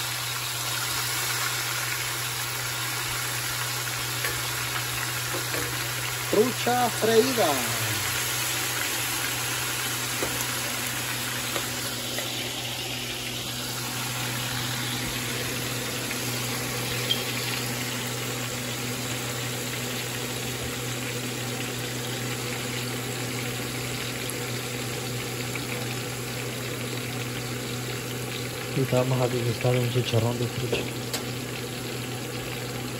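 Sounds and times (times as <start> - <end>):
fish deep-frying in hot oil: 0.0 - 32.9.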